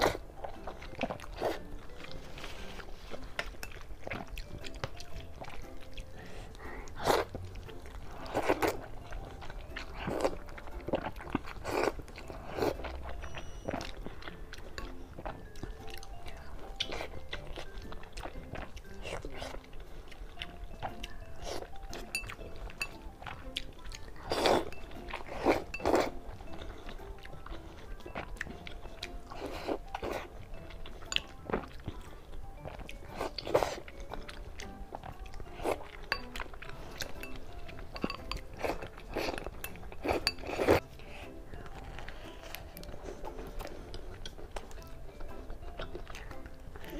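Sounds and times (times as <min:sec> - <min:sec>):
person chewing food: 0:00.0 - 0:46.9
soft background music: 0:00.0 - 0:46.9.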